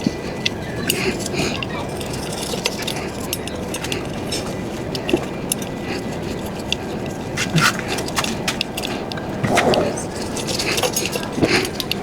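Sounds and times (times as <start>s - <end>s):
metallic clicks and clinks: 0.0s - 12.0s.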